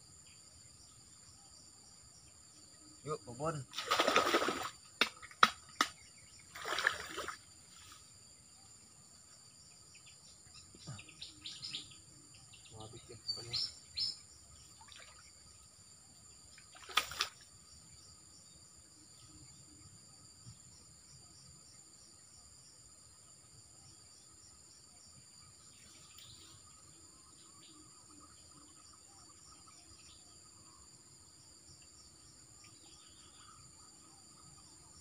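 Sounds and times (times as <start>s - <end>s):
high insect buzz: 0.0s - 35.0s.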